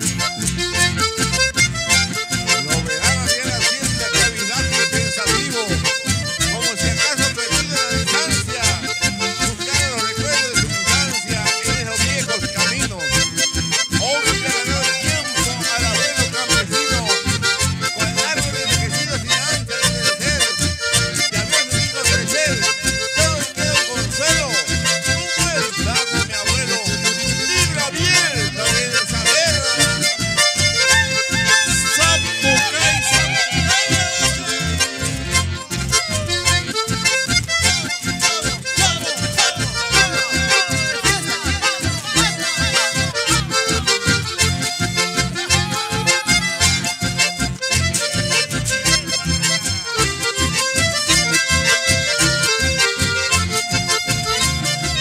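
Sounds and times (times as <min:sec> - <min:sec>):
accordion band music: 0:00.0 - 0:55.0.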